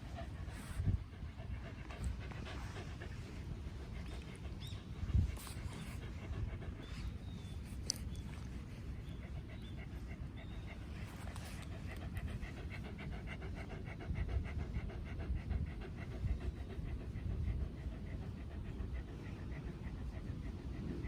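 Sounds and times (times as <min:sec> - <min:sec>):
dog panting: 0:00.0 - 0:21.0
steady low rumble: 0:00.0 - 0:21.0.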